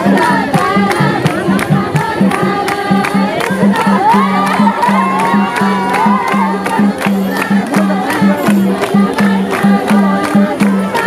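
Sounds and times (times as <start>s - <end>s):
crowd noise: 0.0s - 11.0s
folk dance music: 0.0s - 11.0s.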